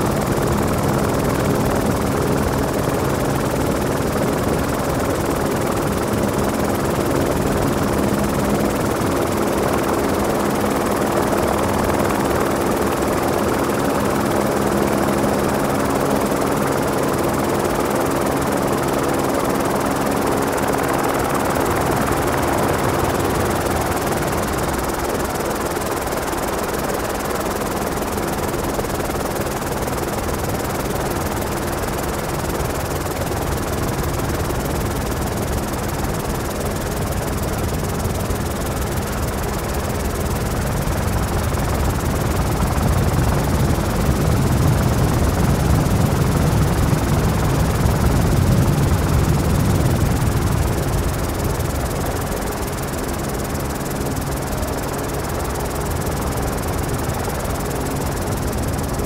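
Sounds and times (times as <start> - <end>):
helicopter rotor and engine noise: 0.0 - 59.0.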